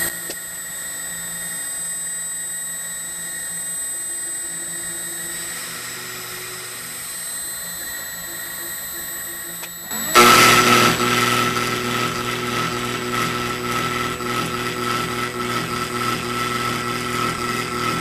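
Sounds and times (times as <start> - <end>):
high-pitched whine: 0.0 - 18.0
stepper motors humming: 0.0 - 18.0.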